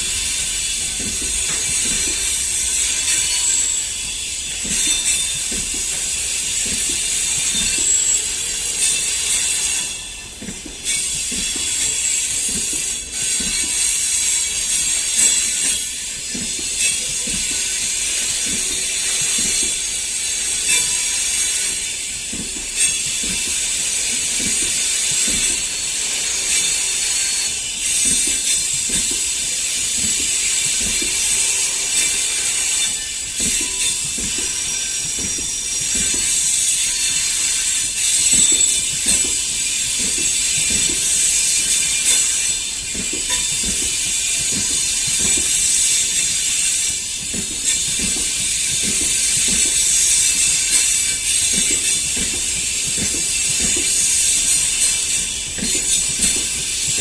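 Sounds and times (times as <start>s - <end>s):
train wheels knocking on rail joints: 0.0s - 57.0s.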